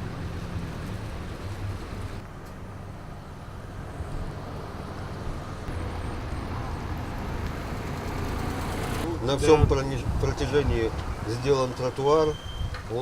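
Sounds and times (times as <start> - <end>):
vehicles driving along a street: 0.0 - 13.0.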